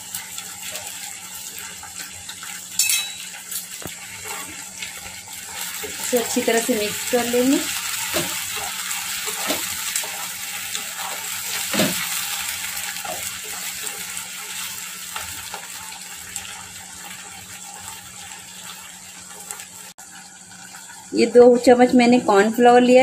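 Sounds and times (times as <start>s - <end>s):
vegetables sizzling in a pan: 0.0s - 23.0s.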